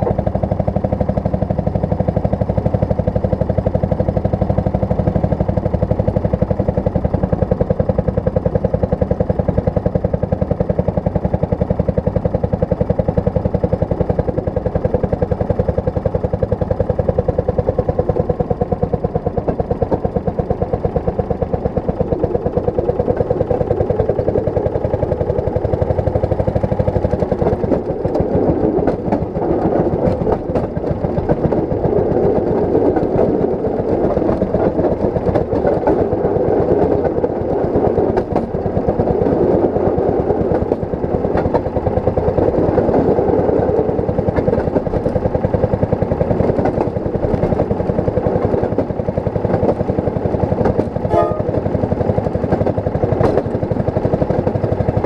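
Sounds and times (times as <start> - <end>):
rail speeder engine running: 0.0 - 55.0
wheels clicking over rail joints: 0.0 - 55.0.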